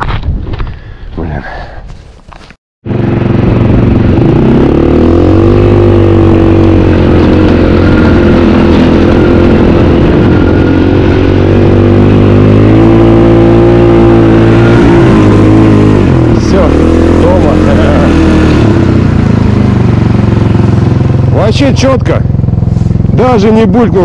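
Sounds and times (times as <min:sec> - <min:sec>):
snowmobile engine revving: 0:02.9 - 0:24.0.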